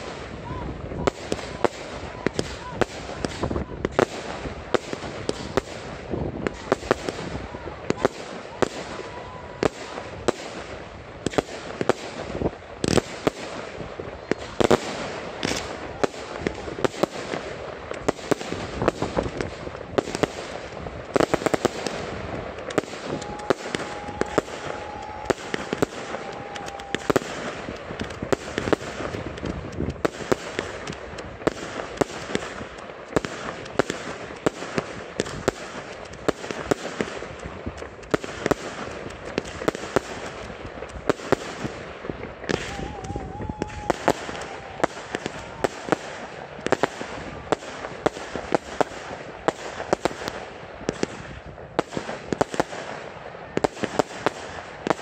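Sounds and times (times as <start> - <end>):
fireworks popping and banging: 0.0 - 55.0
hiss of burning fireworks: 0.0 - 55.0.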